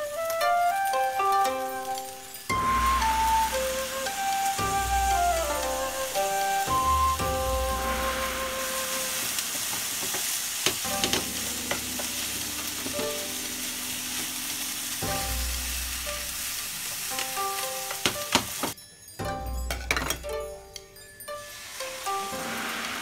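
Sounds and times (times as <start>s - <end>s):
rice sizzling in a frying pan: 0.0s - 18.8s, 20.1s - 23.0s.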